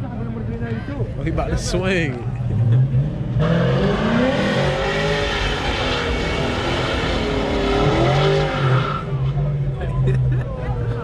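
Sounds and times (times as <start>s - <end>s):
car engine revving: 2.1s - 11.0s.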